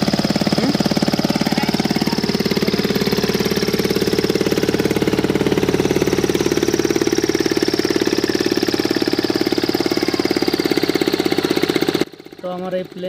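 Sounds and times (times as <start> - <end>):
ultralight aircraft engine: 0.0 - 13.0.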